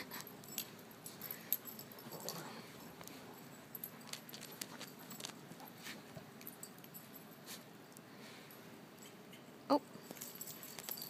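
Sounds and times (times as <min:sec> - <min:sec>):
light clicks and rustling: 0:00.0 - 0:08.1, 0:09.0 - 0:11.0.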